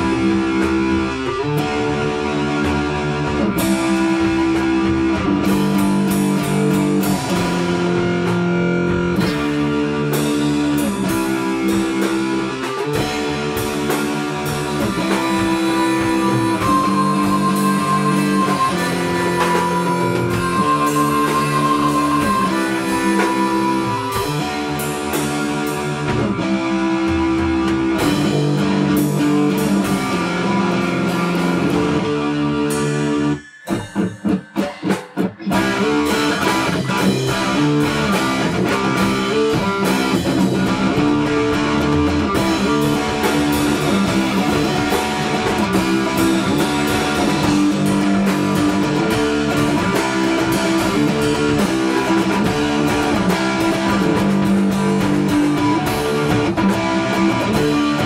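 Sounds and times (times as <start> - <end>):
guitar instrumental music: 0.0 - 58.0.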